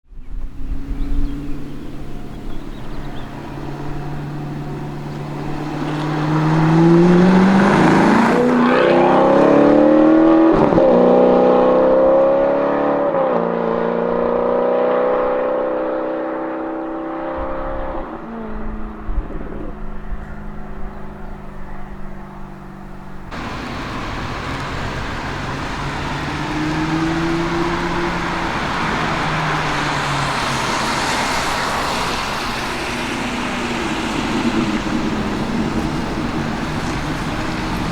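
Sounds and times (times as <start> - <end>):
car engine revving: 1.0 - 37.9.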